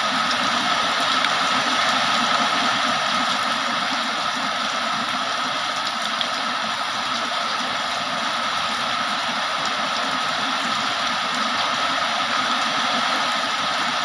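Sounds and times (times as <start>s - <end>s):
heavy rain falling: 0.0s - 14.0s
rain drops ticking: 0.0s - 14.0s.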